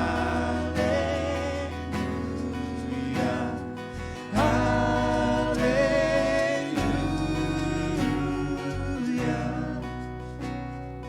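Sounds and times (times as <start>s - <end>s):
worship band playing: 0.0s - 10.1s
person singing: 0.0s - 10.5s.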